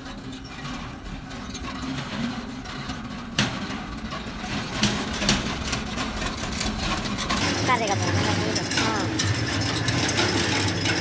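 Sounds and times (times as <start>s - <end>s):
barbed wire clicking and rattling: 0.0s - 11.0s.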